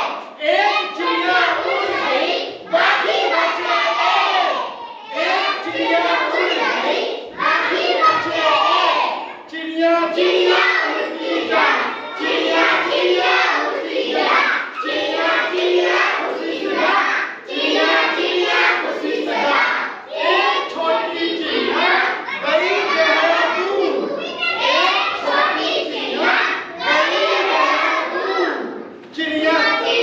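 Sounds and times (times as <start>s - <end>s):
children singing with teacher: 0.0s - 30.0s.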